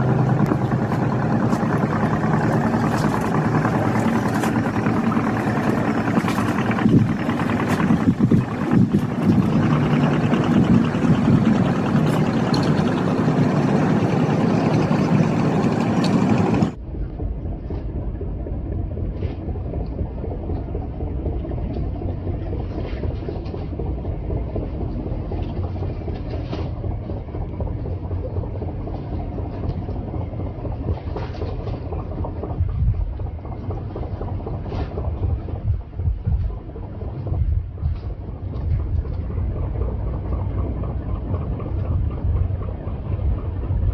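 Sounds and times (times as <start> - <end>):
boat engine running: 0.0 - 43.9
water and wind noise: 0.0 - 43.9
wind buffeting microphone: 0.0 - 43.9.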